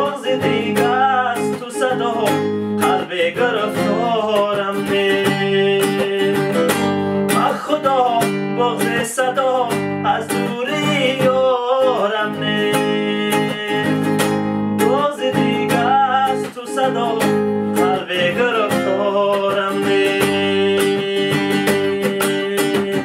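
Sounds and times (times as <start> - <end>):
classical guitar strumming: 0.0 - 23.0
man singing: 0.0 - 23.0.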